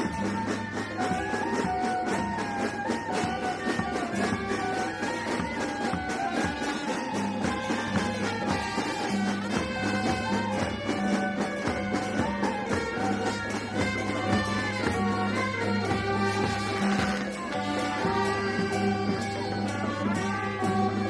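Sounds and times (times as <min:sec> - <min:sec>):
drum beats: 0:00.0 - 0:21.0
saxophones and horns melody: 0:00.0 - 0:21.0.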